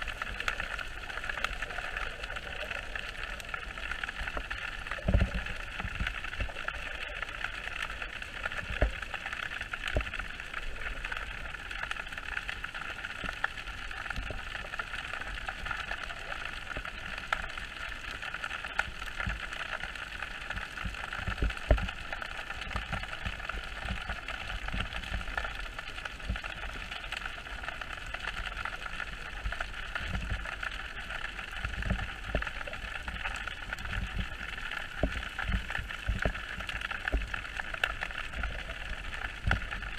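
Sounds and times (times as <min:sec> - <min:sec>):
muffled underwater hiss: 0:00.0 - 0:39.9.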